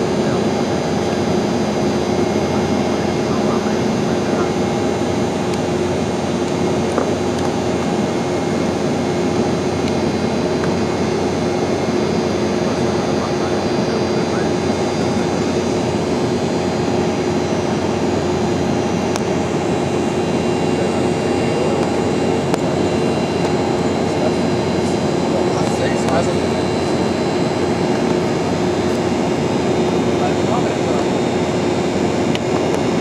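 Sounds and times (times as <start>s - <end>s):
jet engines droning: 0.0s - 33.0s
steady hum tones: 0.0s - 33.0s.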